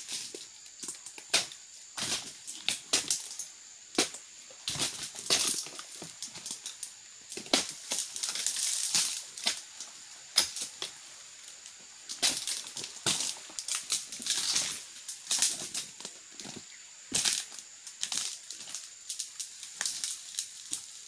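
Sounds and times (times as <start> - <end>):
palm fronds rustling and crunching: 0.0 - 21.0.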